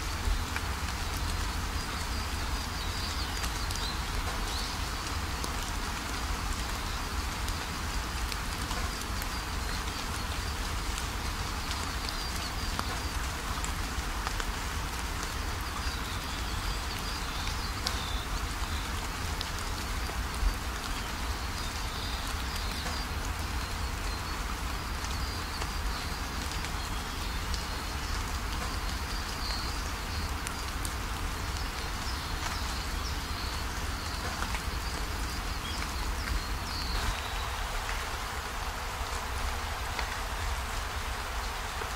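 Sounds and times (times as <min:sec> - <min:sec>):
faint birds chirping: 0:00.0 - 0:41.9
steady rainfall: 0:00.0 - 0:41.9.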